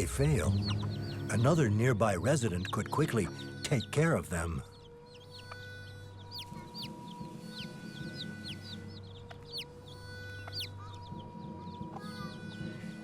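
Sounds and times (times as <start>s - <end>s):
chicks peeping: 0.0s - 13.0s
soft background music: 0.0s - 13.0s.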